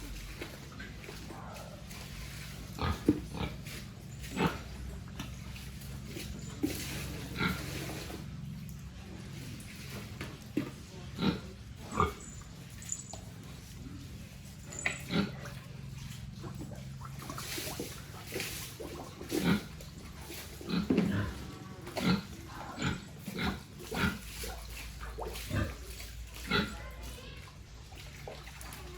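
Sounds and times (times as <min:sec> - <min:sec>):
pigs grunting: 0:00.0 - 0:27.5.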